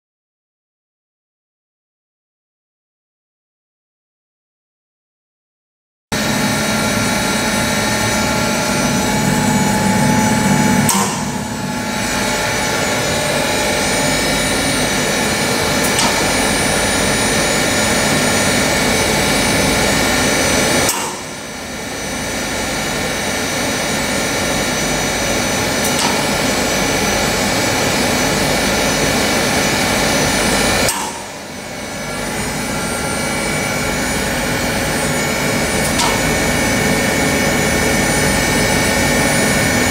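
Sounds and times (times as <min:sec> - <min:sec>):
grinding mill whining: 0:06.2 - 0:39.9.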